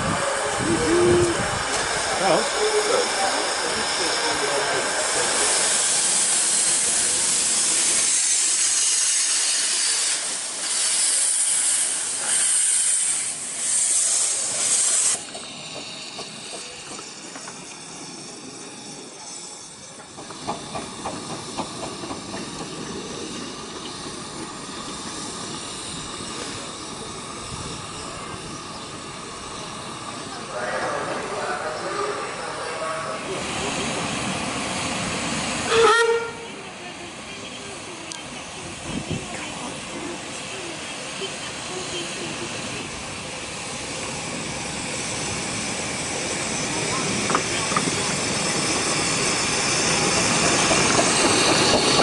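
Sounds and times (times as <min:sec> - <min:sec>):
loud steam hiss: 0:00.0 - 0:52.0
miniature steam locomotive running: 0:00.0 - 0:52.0.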